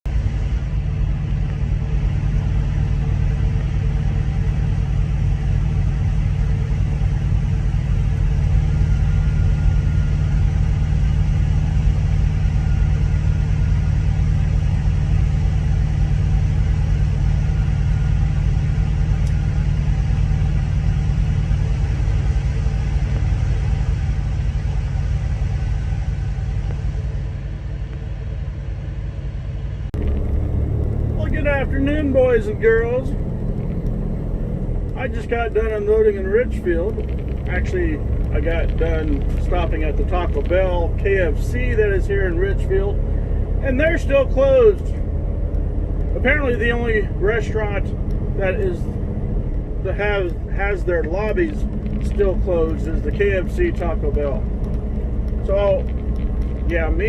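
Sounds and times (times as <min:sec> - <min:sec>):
heavy vehicle rumbling: 0:00.0 - 0:57.0.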